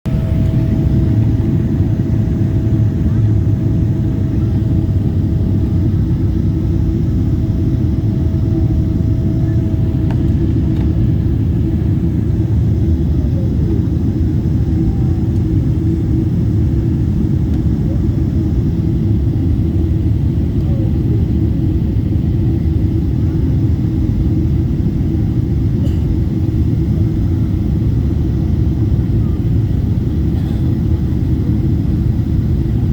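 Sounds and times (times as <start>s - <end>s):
jet engine and airflow rumble: 0.0s - 32.9s
faint steady whine: 0.1s - 32.9s.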